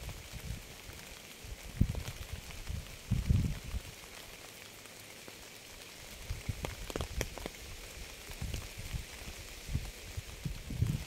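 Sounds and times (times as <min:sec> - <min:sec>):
raindrops tapping and thudding: 0:00.0 - 0:11.0
steady rain hiss: 0:00.0 - 0:11.0.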